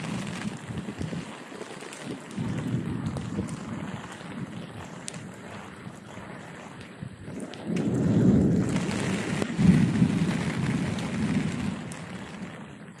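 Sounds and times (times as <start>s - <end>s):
thunder rumbling: 0.0s - 1.5s, 2.1s - 13.0s
steady rain: 0.0s - 13.0s.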